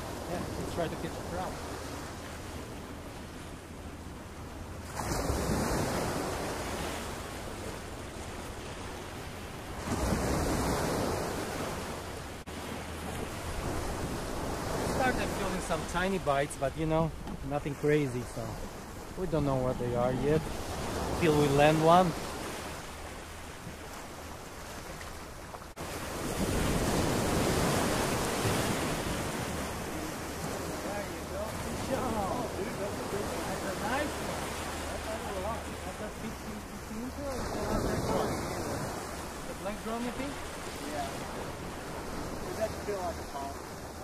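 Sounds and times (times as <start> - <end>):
small surf waves breaking: 0.0 - 44.0.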